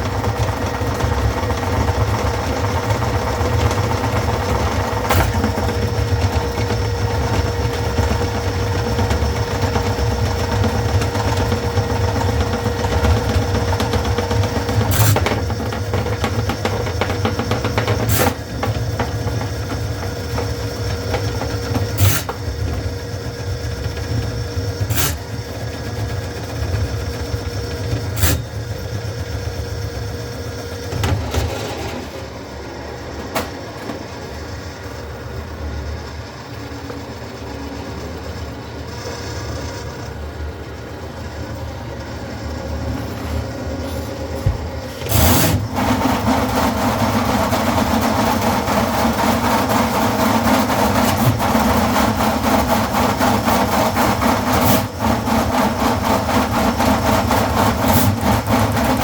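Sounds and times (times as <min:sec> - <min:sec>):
drain cleaning machine running: 0:00.0 - 0:59.0.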